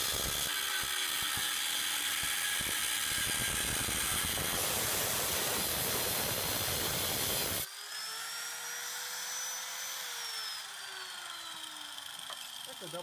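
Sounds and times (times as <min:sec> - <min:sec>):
angle grinder cutting metal: 0:00.0 - 0:13.0
grinder motor whining down: 0:00.0 - 0:13.0.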